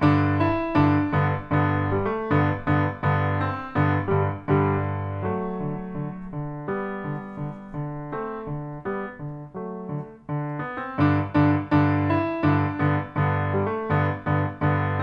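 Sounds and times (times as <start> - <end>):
solo piano melody: 0.0 - 15.0.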